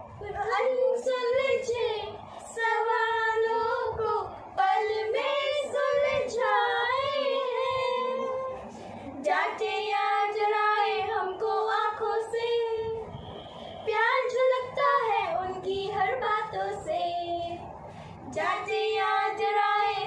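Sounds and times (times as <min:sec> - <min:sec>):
girl singing unaccompanied: 0:00.1 - 0:13.0, 0:13.8 - 0:17.6, 0:18.3 - 0:20.0.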